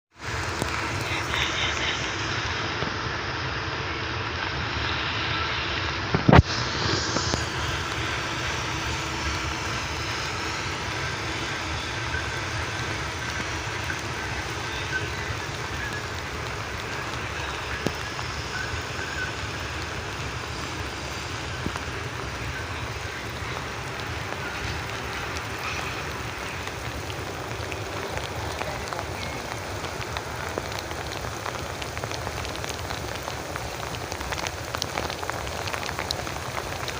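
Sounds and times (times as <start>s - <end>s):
train rumble and hiss: 0.1s - 36.9s.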